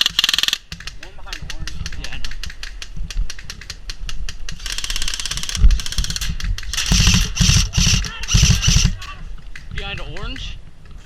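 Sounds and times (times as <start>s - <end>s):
airsoft guns firing: 0.0s - 9.6s.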